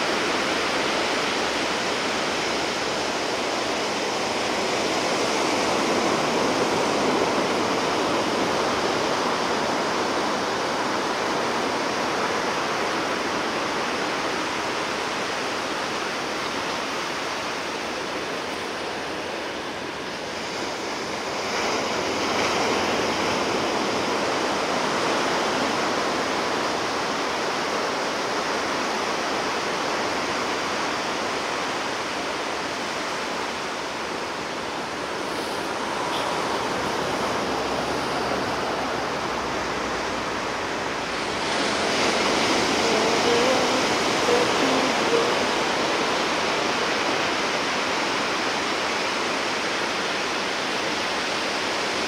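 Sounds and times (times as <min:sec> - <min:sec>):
sea surf washing ashore: 0:00.0 - 0:52.0.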